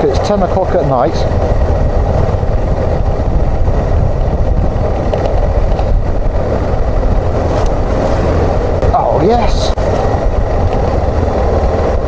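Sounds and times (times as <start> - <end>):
motorcycle engine rumble: 0.0 - 12.0
road and wind noise: 0.0 - 12.0.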